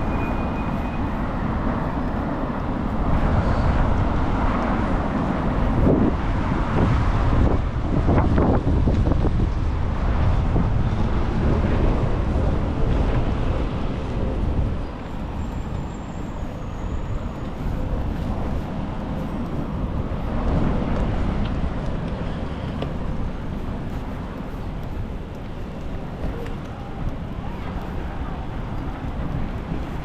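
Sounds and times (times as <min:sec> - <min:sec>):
heavy low rumble: 0:00.0 - 0:30.0
passing vehicles: 0:00.0 - 0:30.0.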